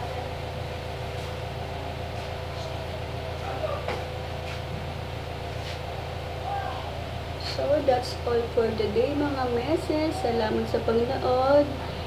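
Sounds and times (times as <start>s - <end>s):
faint steady whine: 0.0s - 12.0s
low mechanical hum: 0.0s - 12.0s.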